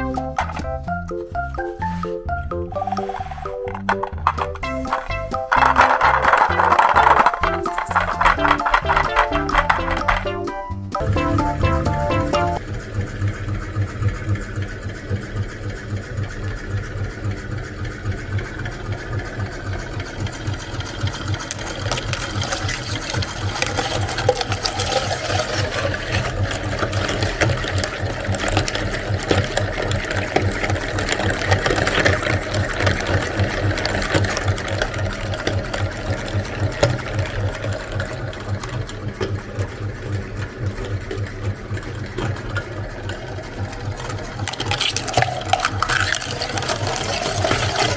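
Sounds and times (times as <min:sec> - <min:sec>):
eggs forced through grinder: 0:00.0 - 0:47.9
electric meat grinder running: 0:04.0 - 0:10.2, 0:12.6 - 0:47.9.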